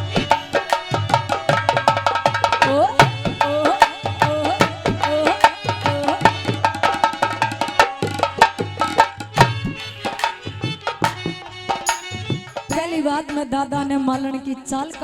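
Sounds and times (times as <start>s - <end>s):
hand drum fast rhythm: 0.0s - 14.0s.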